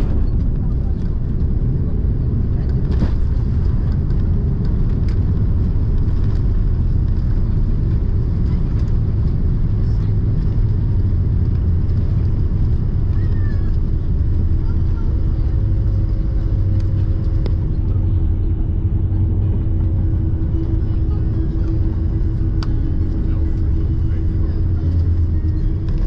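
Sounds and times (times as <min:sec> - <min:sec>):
airplane cabin rumble on runway: 0:00.0 - 0:26.0.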